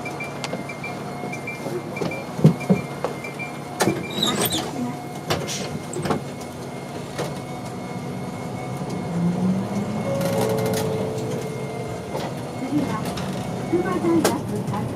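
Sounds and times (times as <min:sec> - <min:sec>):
bus engine idling: 0:00.0 - 0:14.9
clunks and rattles: 0:00.4 - 0:07.7, 0:09.7 - 0:14.9.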